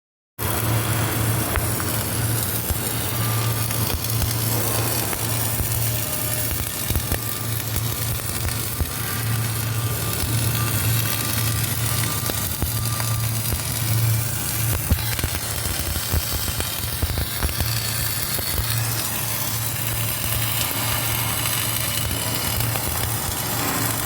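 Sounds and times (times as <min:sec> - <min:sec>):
electrical hum of welding machine: 0:00.4 - 0:24.0
welding arc crackling: 0:00.4 - 0:24.0
welding spatter pops: 0:00.4 - 0:24.0.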